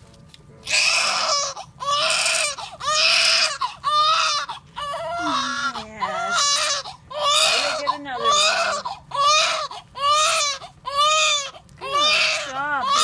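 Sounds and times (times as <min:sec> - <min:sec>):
baby crying: 0:00.6 - 0:13.0.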